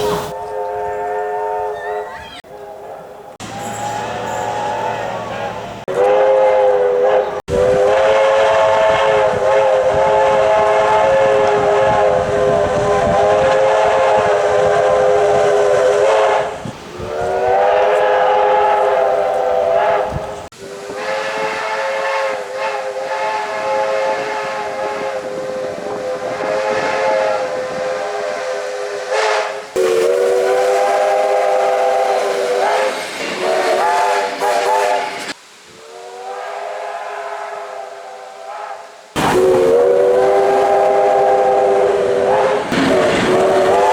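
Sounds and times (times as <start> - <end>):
train horn blasts: 0.0 - 43.9.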